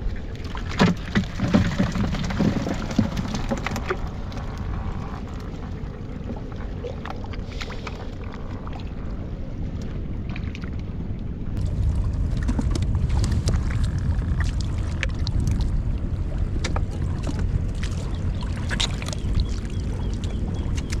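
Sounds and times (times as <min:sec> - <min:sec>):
boat motor rumbling: 0:00.0 - 0:21.0.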